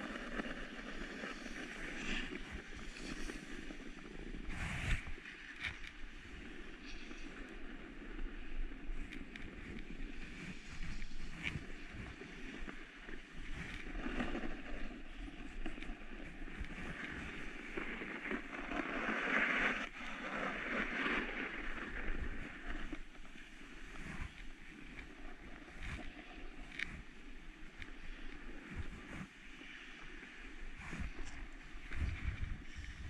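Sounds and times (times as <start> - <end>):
skis scraping over snow: 0.0 - 33.0
wind rumble on microphone: 0.0 - 33.0.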